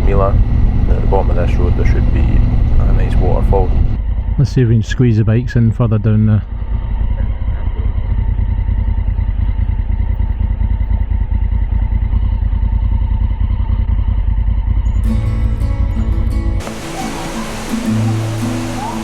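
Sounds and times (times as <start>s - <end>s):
motorcycle engine running: 0.0s - 4.4s, 6.4s - 19.0s.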